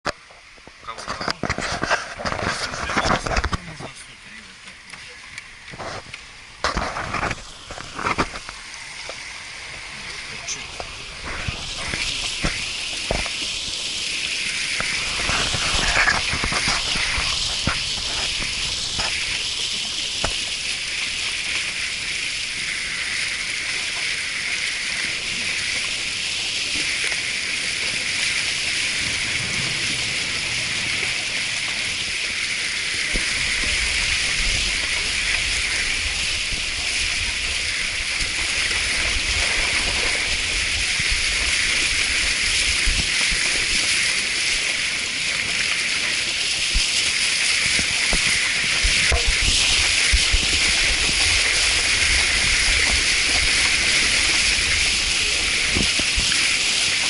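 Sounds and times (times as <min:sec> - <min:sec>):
mountain stream rushing: 0:00.1 - 0:57.0.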